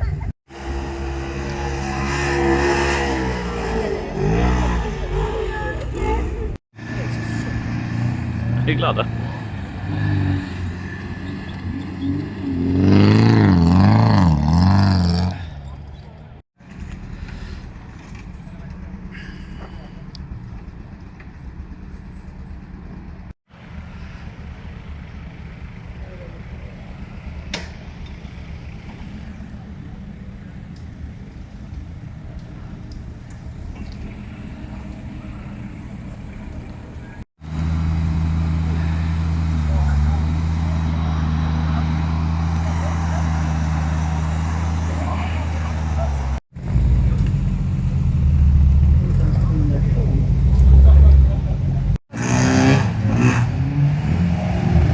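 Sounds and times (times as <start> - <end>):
car engine revving: 0.5 - 30.8, 32.3 - 54.9.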